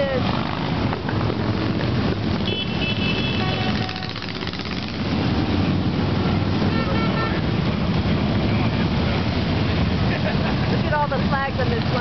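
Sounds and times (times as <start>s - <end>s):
motorcycles riding past: 0.0s - 12.0s.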